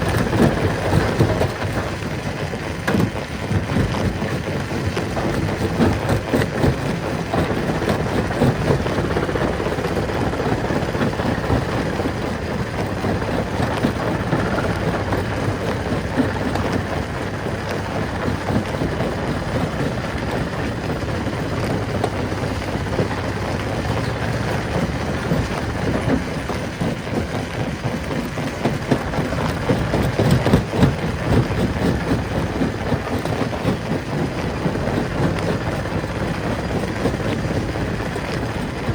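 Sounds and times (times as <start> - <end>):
rock crushing machine running: 0.0 - 38.9.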